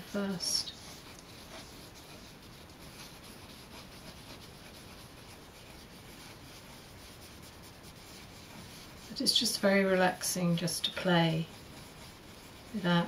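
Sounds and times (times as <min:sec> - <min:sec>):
colouring tool scratching paper: 0:00.0 - 0:13.0.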